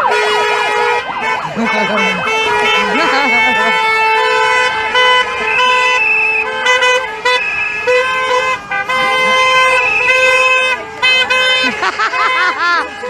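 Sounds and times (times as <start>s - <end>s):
car horns honking: 0.0s - 13.0s.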